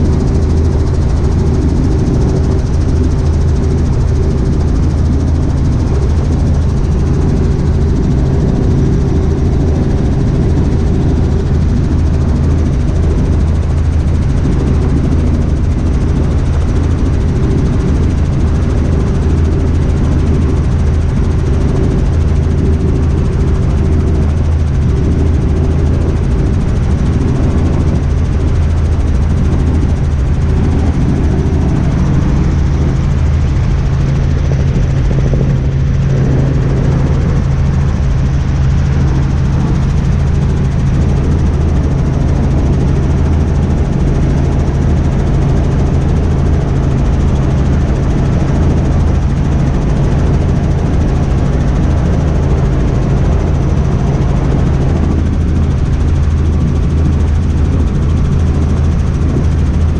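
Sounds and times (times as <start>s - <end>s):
helicopter engine and rotors drone: 0.0s - 59.9s.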